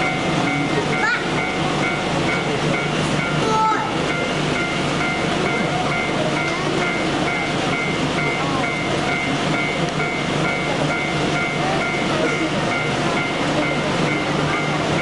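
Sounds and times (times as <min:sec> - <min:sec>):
level-crossing bell ringing: 0:00.0 - 0:15.0
train rumbling past: 0:00.0 - 0:15.0.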